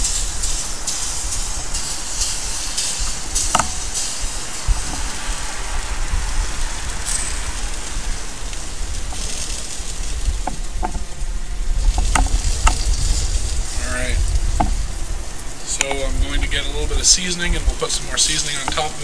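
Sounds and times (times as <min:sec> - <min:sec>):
chicken sizzling on a grill: 0:00.0 - 0:19.0
fat popping and crackling: 0:00.0 - 0:19.0
low rumble: 0:00.0 - 0:19.0.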